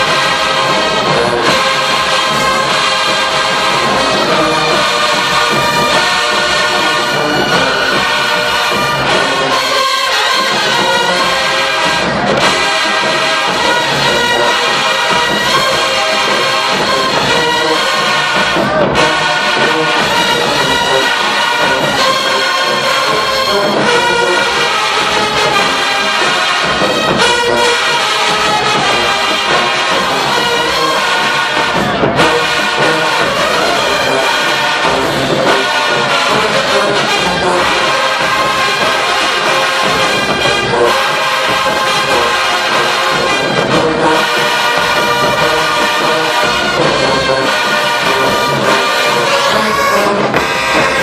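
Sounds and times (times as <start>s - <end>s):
marching band brass chords: 0.0s - 51.0s.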